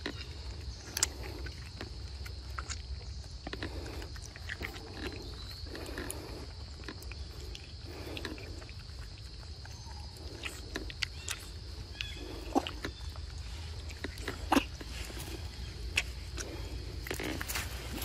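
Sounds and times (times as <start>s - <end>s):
monkeys chewing and smacking: 0.0s - 18.0s.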